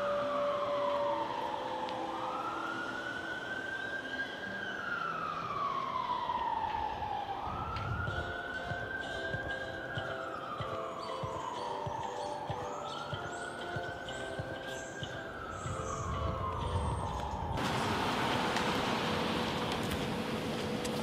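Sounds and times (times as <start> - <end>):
siren wailing: 0.0 - 17.6.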